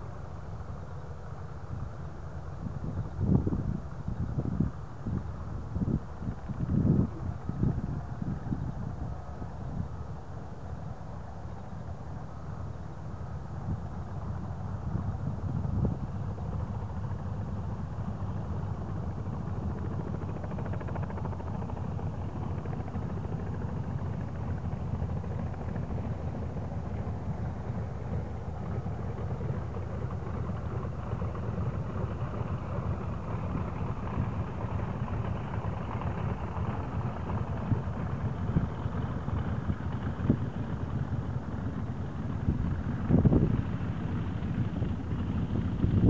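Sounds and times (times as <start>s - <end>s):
light aircraft engine droning: 0.0s - 46.0s.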